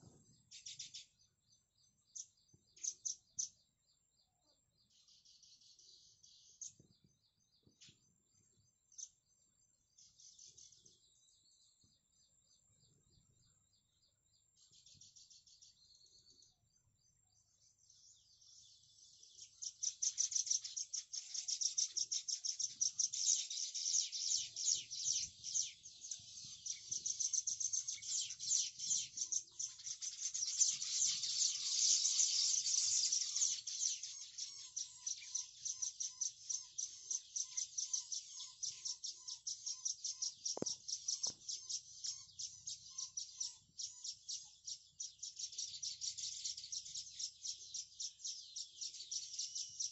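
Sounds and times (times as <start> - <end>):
birds chirping rapidly: 0.0 - 49.9.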